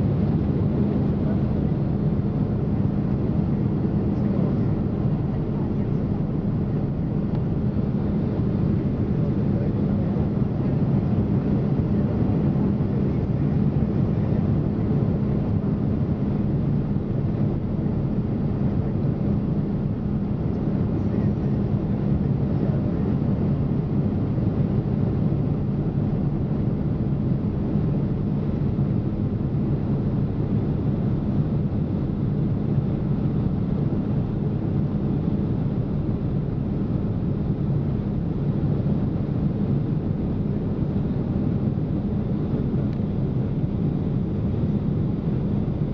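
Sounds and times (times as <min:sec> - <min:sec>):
jet engines droning: 0:00.0 - 0:45.9.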